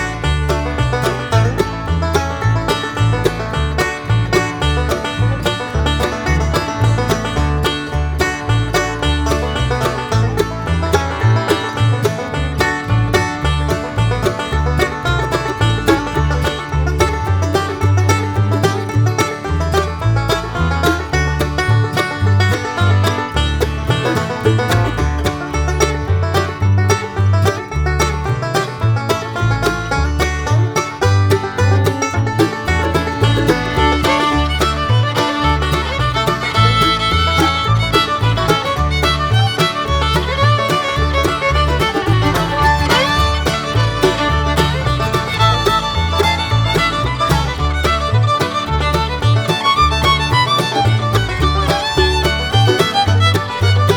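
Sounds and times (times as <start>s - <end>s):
banjo: 0.0s - 53.9s
fiddle: 0.0s - 53.9s
guitar: 0.0s - 53.9s
steady bass beat: 0.0s - 53.9s.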